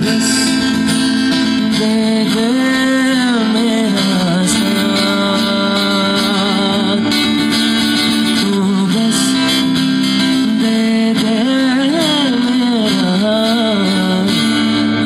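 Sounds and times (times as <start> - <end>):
acoustic guitar strumming: 0.0 - 15.0
man singing into a microphone: 0.0 - 15.0.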